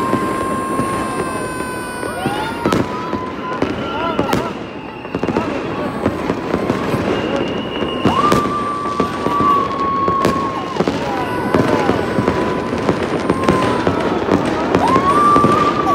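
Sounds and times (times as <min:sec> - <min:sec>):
firework whistling: 0:00.0 - 0:15.9
fireworks bangs and crackling: 0:00.0 - 0:15.9.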